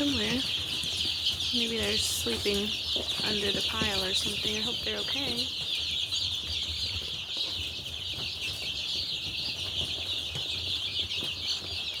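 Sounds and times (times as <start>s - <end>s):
chicks peeping in chorus: 0.0s - 12.0s.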